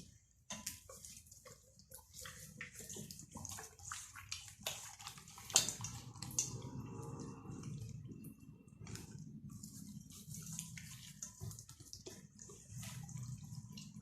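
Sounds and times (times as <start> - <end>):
hands squishing raw chicken: 0.0 - 14.0.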